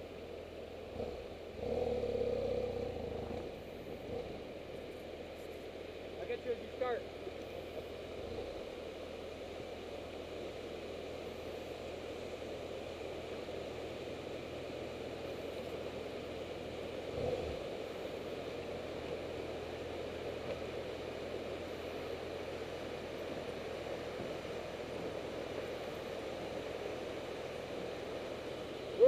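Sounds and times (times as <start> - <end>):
motorcycle engine at low revs: 0.0 - 6.2, 7.2 - 29.0.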